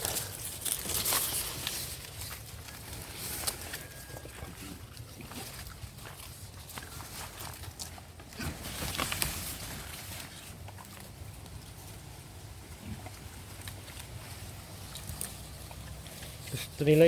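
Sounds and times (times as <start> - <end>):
rustle: 0.0 - 17.0.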